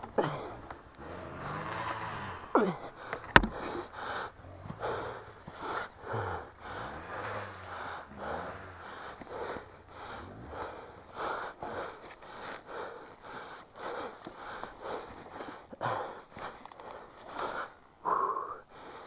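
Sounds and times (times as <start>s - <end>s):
person panting: 0.0s - 19.0s.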